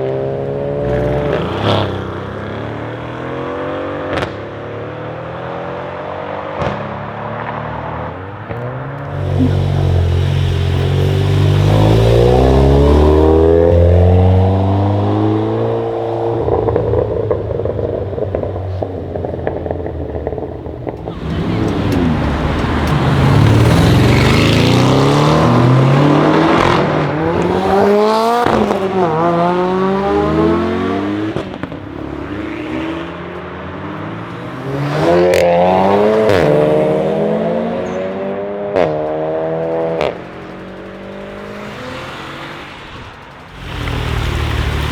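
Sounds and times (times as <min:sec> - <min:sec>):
car engine accelerating hard: 0:00.0 - 0:44.9
exhaust cracks: 0:06.5 - 0:44.9.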